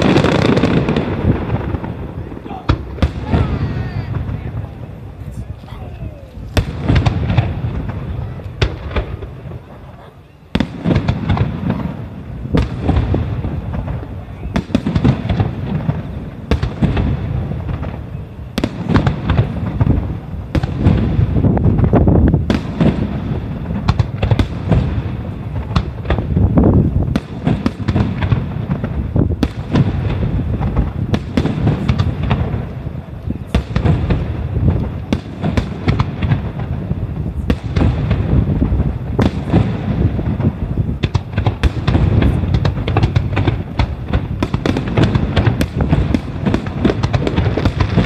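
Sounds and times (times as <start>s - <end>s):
firework bangs: 0.0s - 48.0s.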